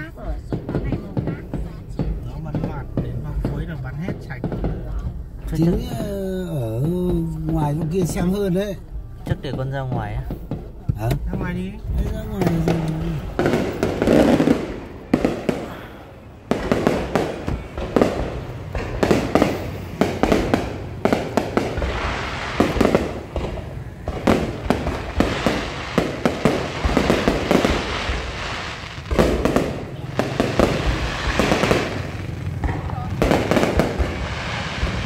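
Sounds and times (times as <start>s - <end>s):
fireworks bangs and booms: 0.0s - 35.0s
fireworks crackling: 0.0s - 35.0s.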